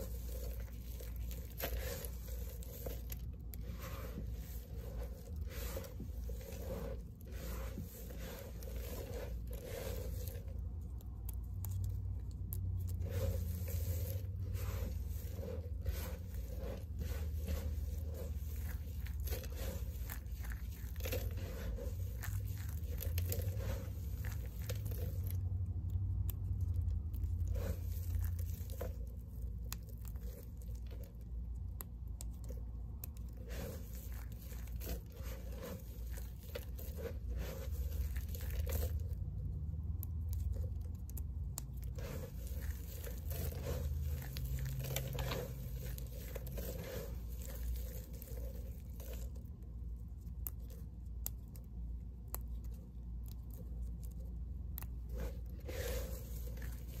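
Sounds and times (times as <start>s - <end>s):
low steady rumble: 0.0s - 57.0s
soap flakes crunching: 0.0s - 57.0s.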